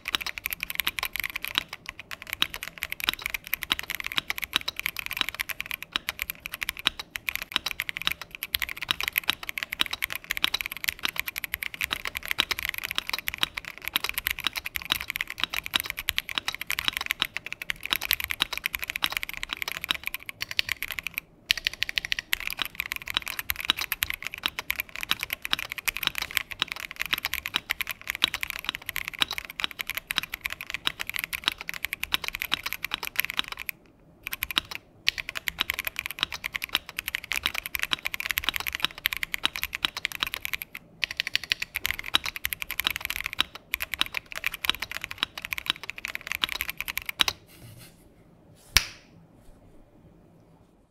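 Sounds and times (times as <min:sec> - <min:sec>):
fast mechanical keyboard typing: 0:00.0 - 0:47.4.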